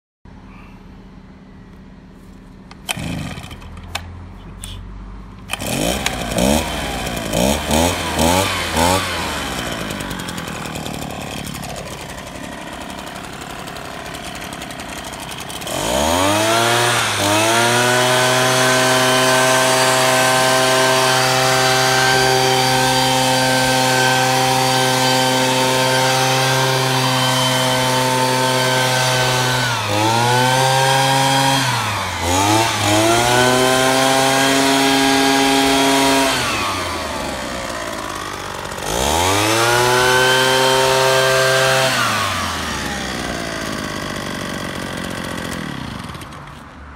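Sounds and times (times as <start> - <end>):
engine leaf blower revving: 2.6 - 46.8.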